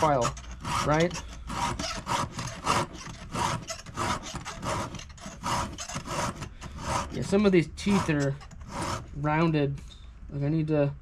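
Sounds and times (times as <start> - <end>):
hand file rasping on chain: 0.0 - 9.2.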